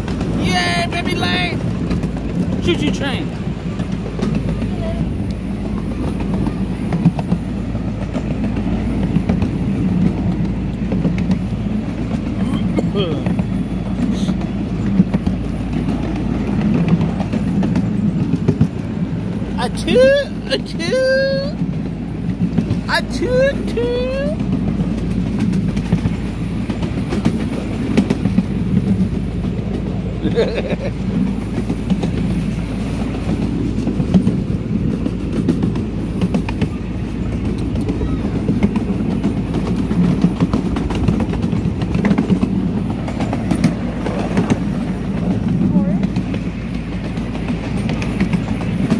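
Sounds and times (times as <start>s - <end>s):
miniature train rumbling: 0.0s - 48.9s
wheels clicking: 0.0s - 48.9s.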